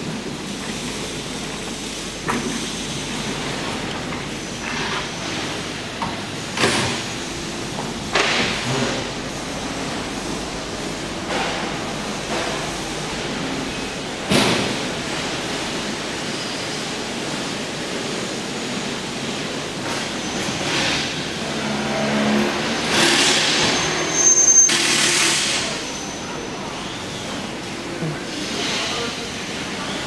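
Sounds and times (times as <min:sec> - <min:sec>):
workshop background noise: 0:00.0 - 0:30.0.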